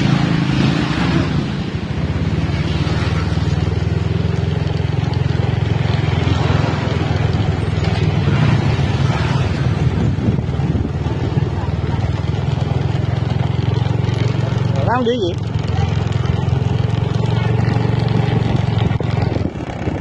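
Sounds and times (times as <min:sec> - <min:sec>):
small motorcycle engine running: 0:00.0 - 0:20.0.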